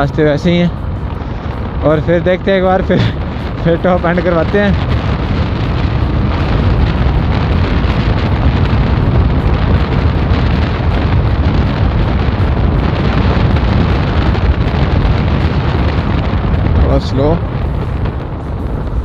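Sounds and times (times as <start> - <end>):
motorcycle engine running hard: 0.0 - 19.0
wind buffeting on microphone: 0.0 - 19.0.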